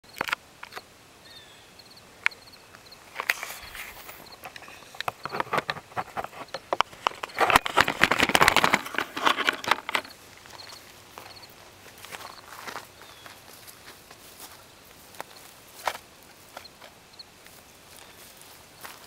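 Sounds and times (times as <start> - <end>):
footsteps crunching on gravel: 3.1 - 19.0.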